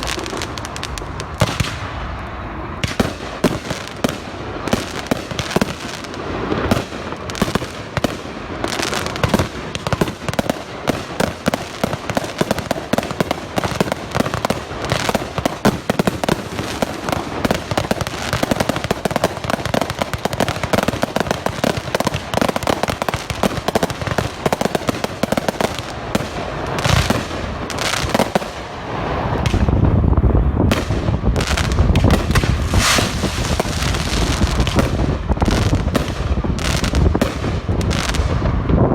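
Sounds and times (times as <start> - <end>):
deep fireworks booms: 0.0 - 38.9
fireworks crackling and banging: 0.0 - 38.9.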